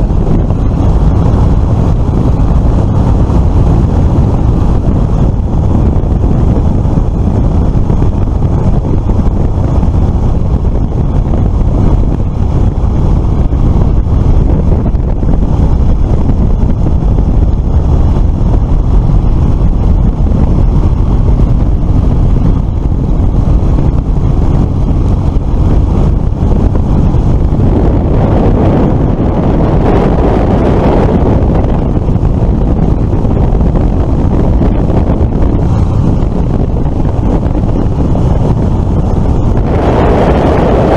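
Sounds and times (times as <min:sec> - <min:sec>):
scooter engine and road noise: 0:00.0 - 0:40.9
wind buffeting microphone: 0:00.0 - 0:40.9.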